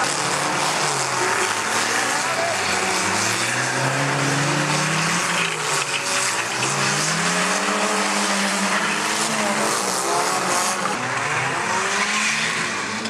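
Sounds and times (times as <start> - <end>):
small engines revving: 0.0 - 13.0.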